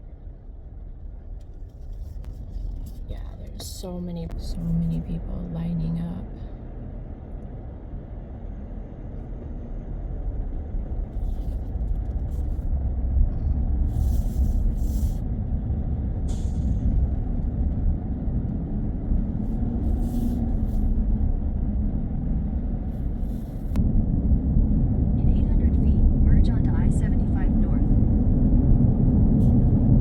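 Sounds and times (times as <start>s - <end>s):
car road noise rumble: 0.0s - 30.0s.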